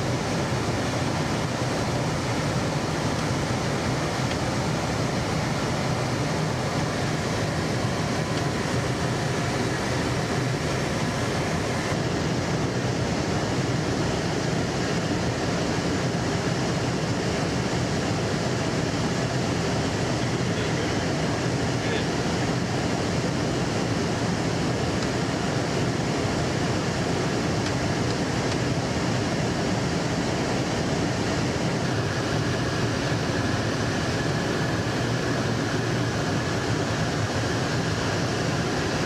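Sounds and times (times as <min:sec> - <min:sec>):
aircraft engine roar: 0:00.0 - 0:39.0.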